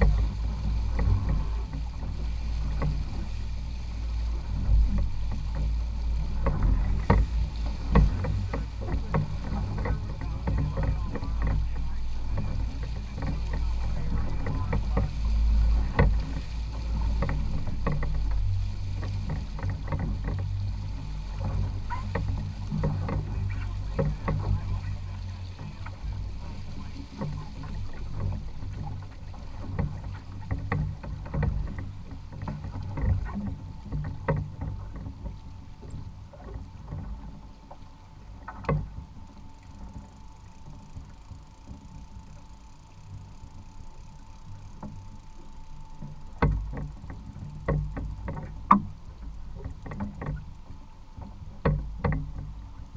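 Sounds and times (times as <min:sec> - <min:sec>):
boat engine humming: 0:00.0 - 0:52.9
short knocks and clicks: 0:06.4 - 0:37.8, 0:38.4 - 0:52.6.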